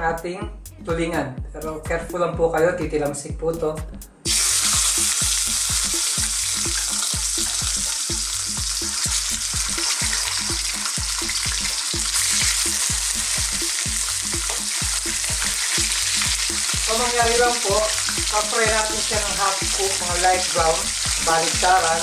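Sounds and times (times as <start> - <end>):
fish frying in hot oil: 4.3 - 22.0.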